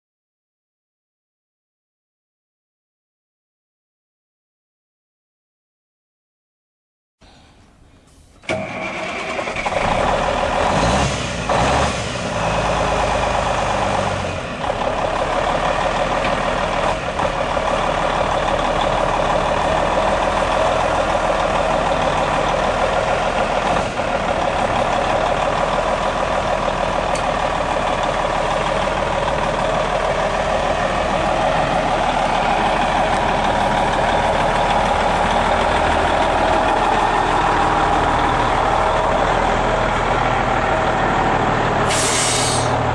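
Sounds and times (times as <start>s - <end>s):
diesel truck engine idling: 7.7s - 42.9s.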